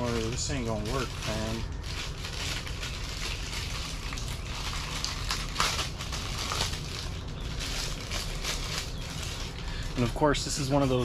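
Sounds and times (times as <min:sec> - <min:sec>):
rustling and crackling of parts: 0:00.0 - 0:11.0
steady low hum: 0:00.0 - 0:11.0.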